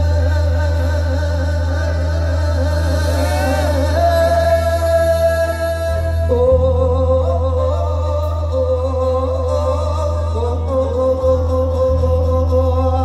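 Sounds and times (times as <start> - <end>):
amplified stage accompaniment: 0.0 - 13.0
person singing long notes: 0.0 - 13.0.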